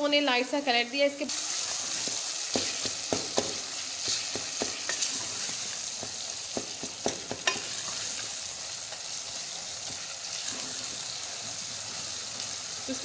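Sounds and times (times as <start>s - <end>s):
onions sizzling in oil: 0.1s - 13.0s.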